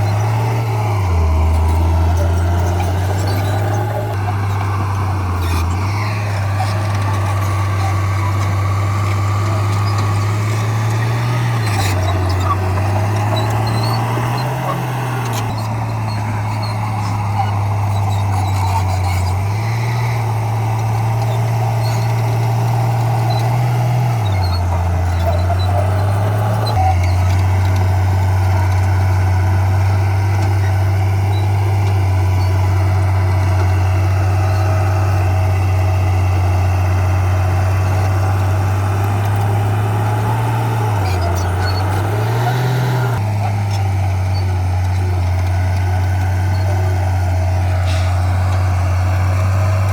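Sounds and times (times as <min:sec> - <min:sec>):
diesel engine under load: 0:00.0 - 0:49.9.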